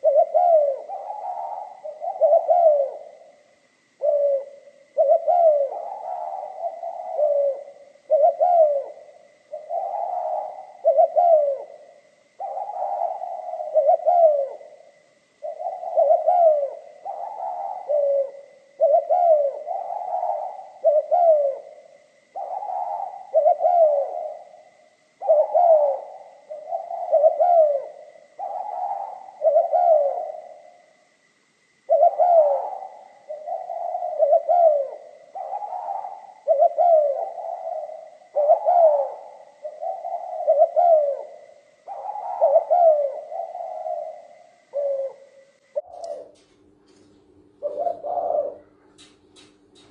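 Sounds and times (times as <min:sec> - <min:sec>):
dove cooing: 0:00.0 - 0:49.9
faint high whine: 0:00.0 - 0:49.9.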